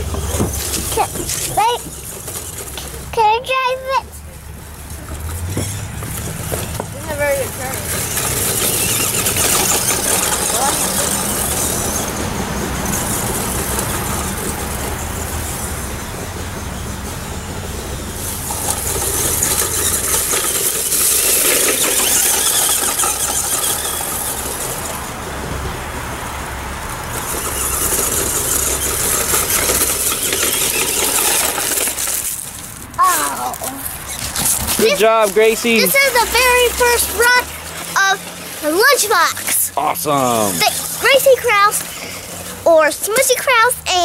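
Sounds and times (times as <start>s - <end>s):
electric motor and gears whining: 0.0s - 44.0s
tyres hissing: 0.0s - 44.0s.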